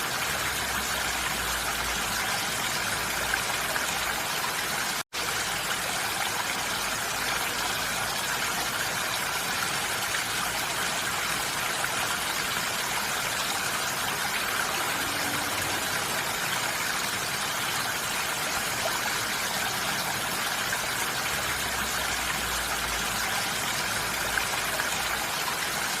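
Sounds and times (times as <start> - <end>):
rain on a roof: 0.0 - 26.0.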